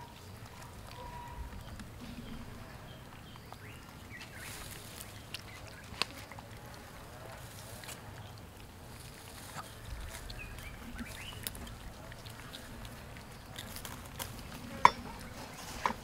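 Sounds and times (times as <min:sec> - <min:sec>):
faint outdoor background: 0:00.0 - 0:16.0.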